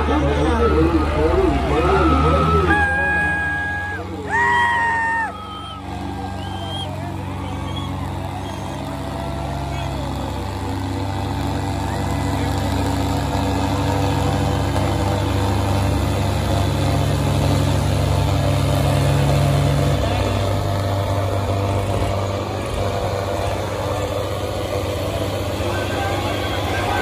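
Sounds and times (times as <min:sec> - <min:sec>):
tractor diesel engines under load: 0:00.0 - 0:27.0.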